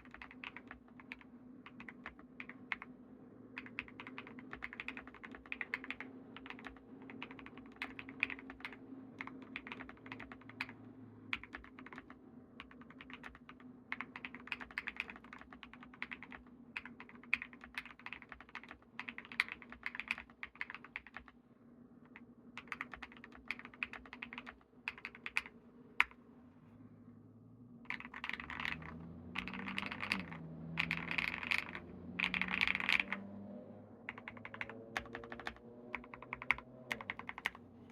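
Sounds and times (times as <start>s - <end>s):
typing on mechanical keyboard: 0.0s - 2.9s, 3.5s - 21.4s, 22.1s - 26.2s, 27.9s - 33.4s, 34.0s - 37.9s.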